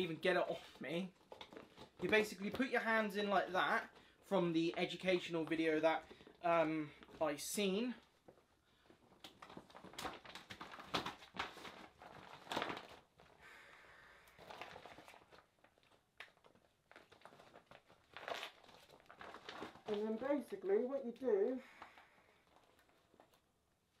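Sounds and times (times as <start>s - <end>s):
plastic hood crinkling: 0.0s - 13.5s, 14.3s - 24.0s.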